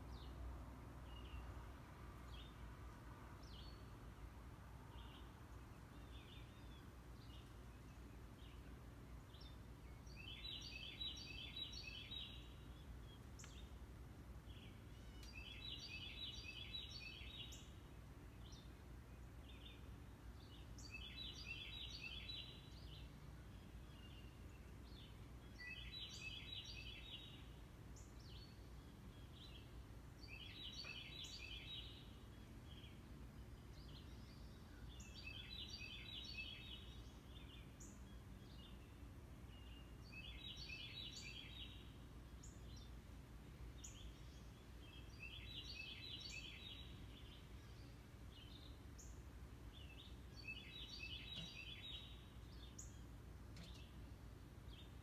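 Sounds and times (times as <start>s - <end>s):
songbird singing faintly: 0.0s - 55.0s.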